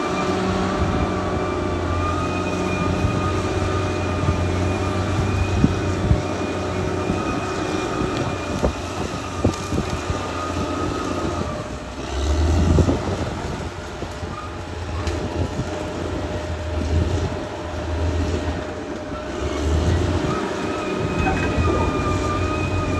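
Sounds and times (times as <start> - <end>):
bulldozer diesel engine: 0.0 - 22.9
steel tracks clanking and squealing: 0.0 - 22.9.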